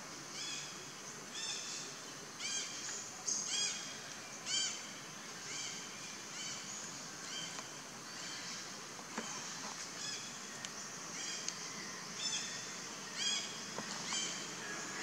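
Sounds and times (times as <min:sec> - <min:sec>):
steady high hiss: 0:00.0 - 0:15.0
bird calling: 0:01.4 - 0:15.0.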